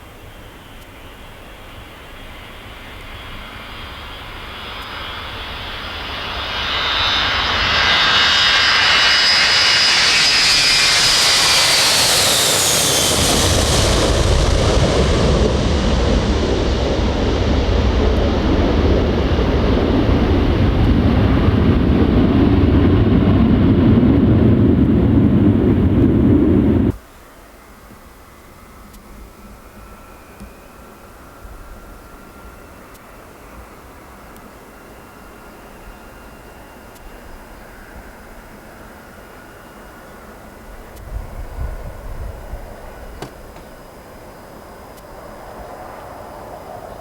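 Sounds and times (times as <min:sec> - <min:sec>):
jet engines taking off: 0:00.1 - 0:27.0, 0:29.5 - 0:47.0.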